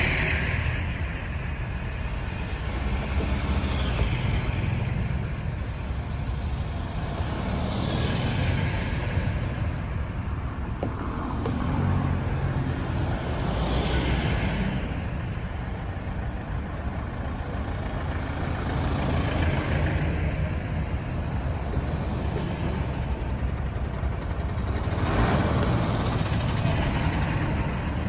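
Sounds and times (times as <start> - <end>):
road traffic rumble: 0.0 - 28.0
vehicles passing: 0.0 - 28.0.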